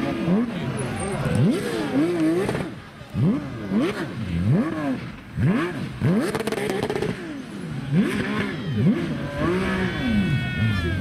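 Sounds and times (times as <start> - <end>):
engine crackles: 0.0 - 11.0
rally car engine revving: 0.0 - 11.0.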